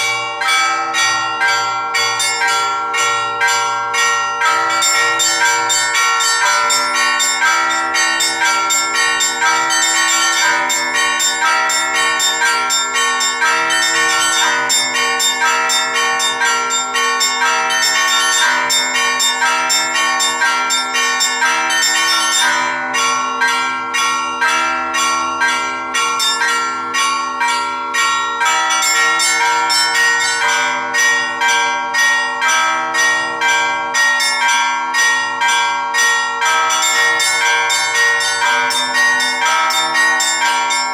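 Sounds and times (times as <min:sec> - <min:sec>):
large bells ringing: 0:00.0 - 0:40.9.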